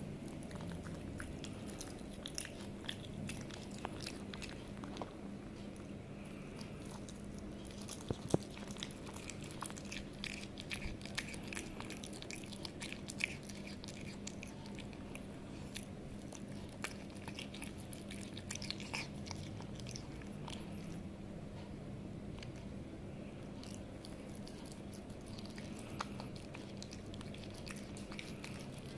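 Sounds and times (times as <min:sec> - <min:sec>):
cat chewing raw meat: 0:00.0 - 0:21.1, 0:22.4 - 0:28.9.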